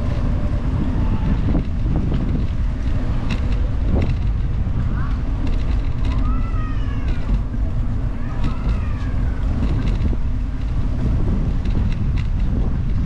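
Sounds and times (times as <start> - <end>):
faint voices of passers-by: 0.0 - 13.0
wind buffeting microphone: 0.0 - 13.0.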